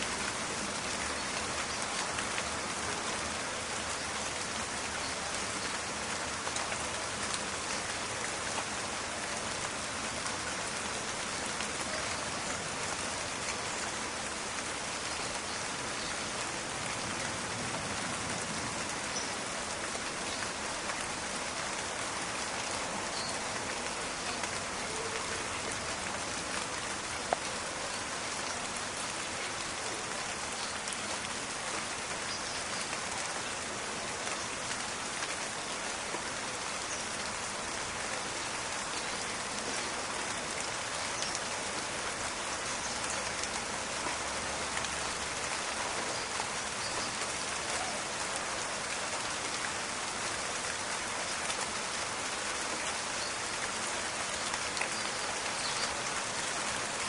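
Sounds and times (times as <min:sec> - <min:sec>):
rain pattering in forest: 0:00.0 - 0:57.0.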